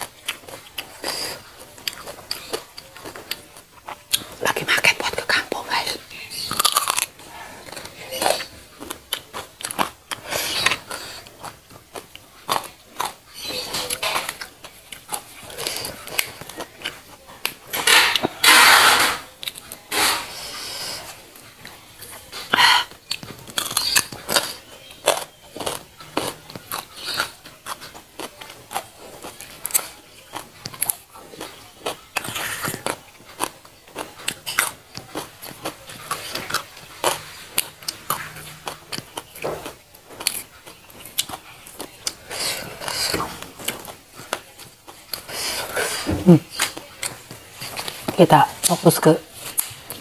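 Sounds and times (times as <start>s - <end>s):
close chewing and crunching: 0.0s - 50.0s.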